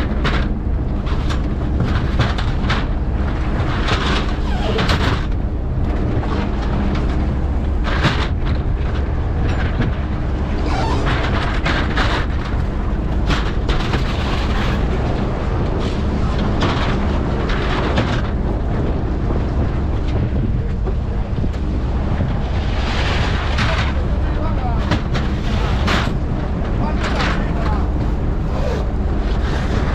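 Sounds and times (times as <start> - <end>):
boat engine humming: 0.0 - 29.9
wind buffeting microphone: 0.0 - 29.9.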